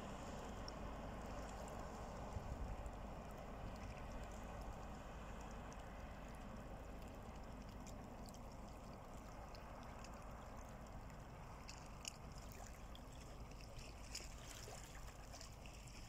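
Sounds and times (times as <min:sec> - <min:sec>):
small splashes: 0:00.0 - 0:16.0
water lapping against rocks: 0:00.0 - 0:16.0.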